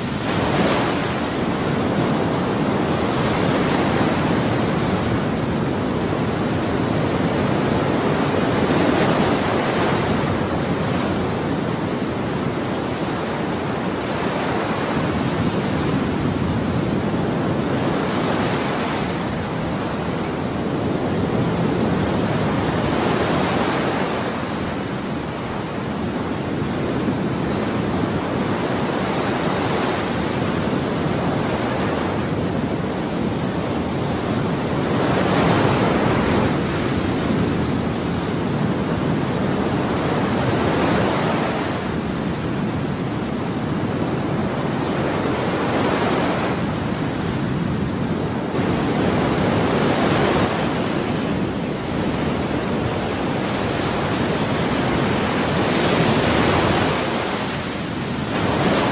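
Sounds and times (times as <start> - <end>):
ocean waves breaking: 0.0 - 58.9.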